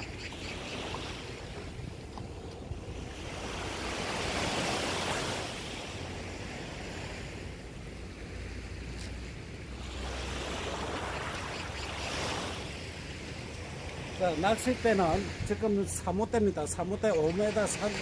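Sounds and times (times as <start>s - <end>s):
small waves washing on beach: 0.0s - 18.0s
wind rumble on microphone: 0.0s - 18.0s.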